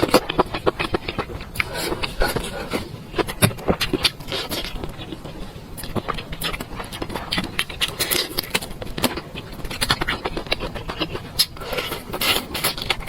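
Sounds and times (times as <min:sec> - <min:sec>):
person chewing and smacking food: 0:00.0 - 0:13.0.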